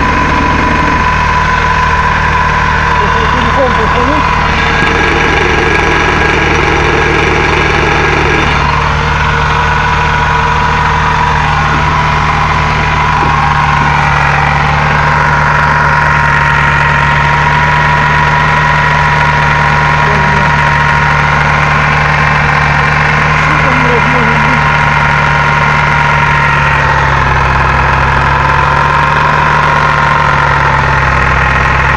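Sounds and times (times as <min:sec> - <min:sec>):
car engine idling: 0:00.0 - 0:31.9
gearbox whine: 0:00.0 - 0:31.9.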